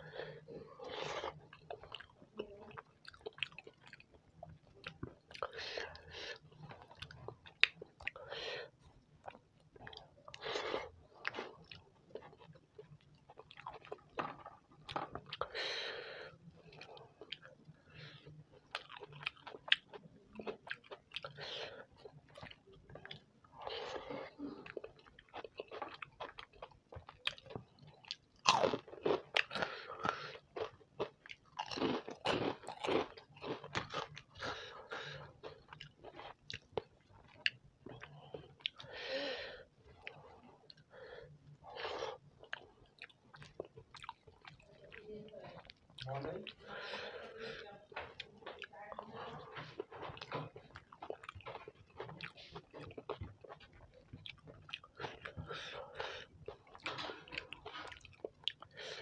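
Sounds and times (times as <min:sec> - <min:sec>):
person chewing crisp food: 0:00.0 - 0:59.0.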